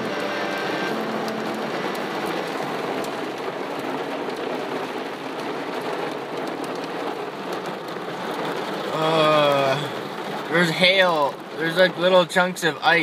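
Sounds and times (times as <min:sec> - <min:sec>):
hail ticking: 0:00.0 - 0:13.0
heavy rain on a car: 0:00.0 - 0:13.0.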